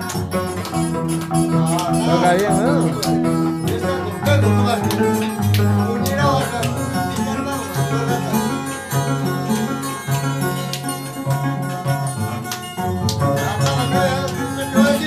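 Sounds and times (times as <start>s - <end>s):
harp playing lively tune: 0.0s - 15.0s.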